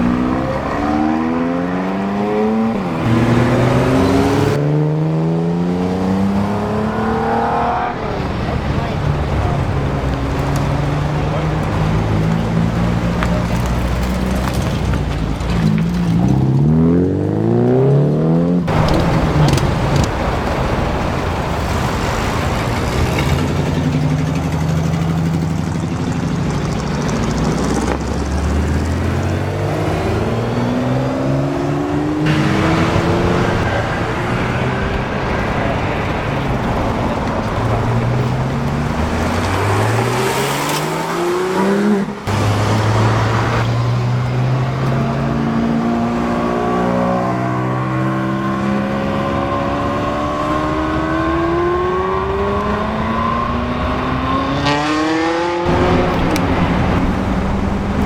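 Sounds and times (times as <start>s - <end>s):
supercar engines accelerating: 0.0s - 58.0s.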